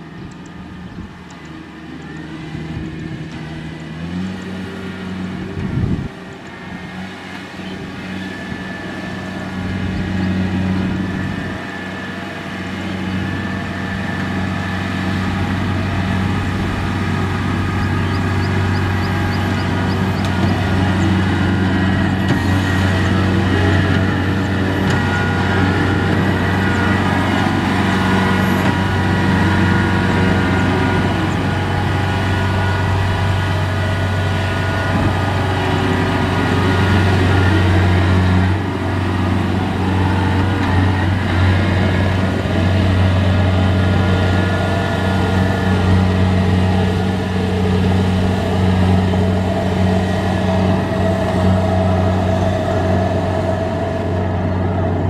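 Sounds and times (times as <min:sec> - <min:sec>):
combine harvester engine drone: 0:00.0 - 0:55.0
steady whining tones: 0:00.0 - 0:55.0.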